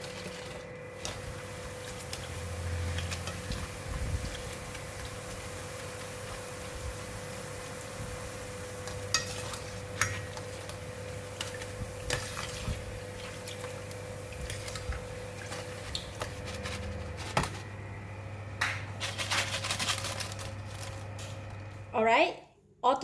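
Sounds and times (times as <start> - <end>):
steady low hum: 0.3 - 22.9.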